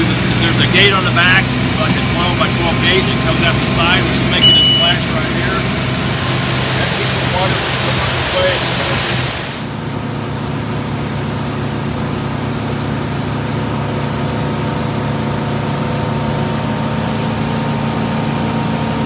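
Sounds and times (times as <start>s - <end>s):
boat engine humming: 0.0s - 19.0s
water churning in boat wake: 0.0s - 19.0s.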